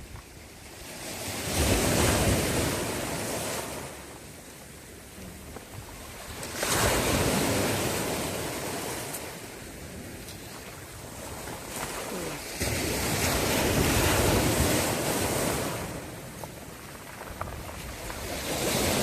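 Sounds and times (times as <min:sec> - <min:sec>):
sea waves breaking: 0:00.0 - 0:19.0.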